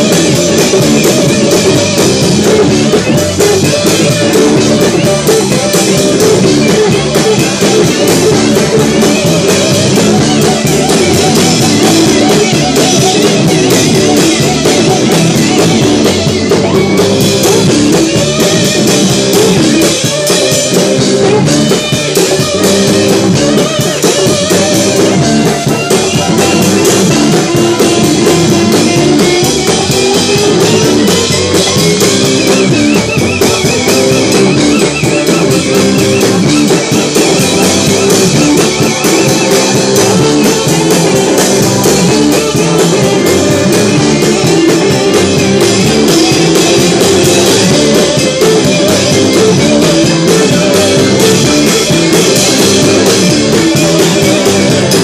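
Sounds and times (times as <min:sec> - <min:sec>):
drum kit with cymbals: 0:00.0 - 0:55.0
electric bass: 0:00.0 - 0:55.0
electric guitar: 0:00.0 - 0:55.0
lap steel guitar sliding line: 0:00.0 - 0:55.0.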